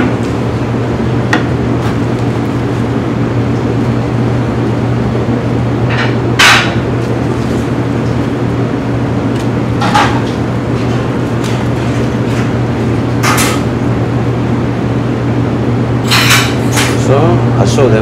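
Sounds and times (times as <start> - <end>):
kitchen machinery hum: 0.0 - 18.0.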